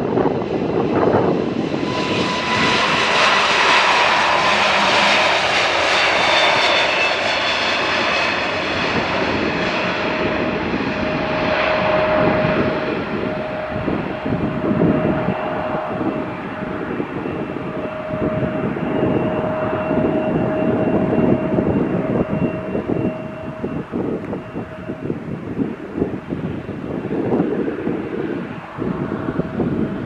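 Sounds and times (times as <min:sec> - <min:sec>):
aircraft engines running: 0:00.0 - 0:30.0
steady whining tones: 0:00.8 - 0:30.0.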